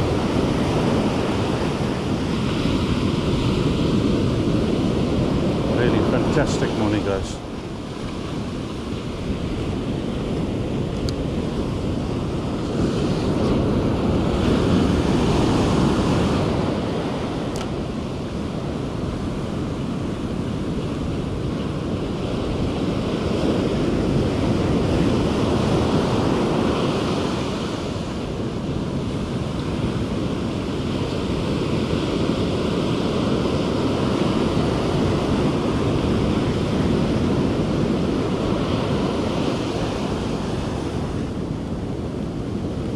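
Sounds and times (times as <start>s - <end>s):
ocean surf breaking on beach: 0.0s - 42.9s.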